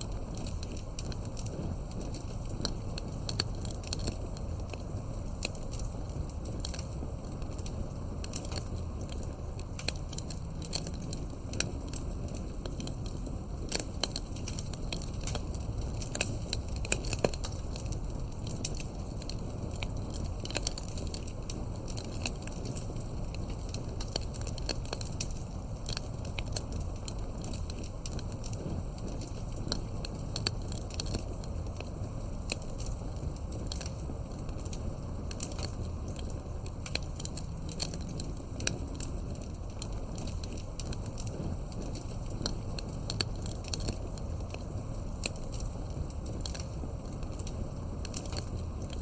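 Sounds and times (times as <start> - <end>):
campfire wood crackling: 0.0 - 49.0
low rush of flame: 0.0 - 49.0.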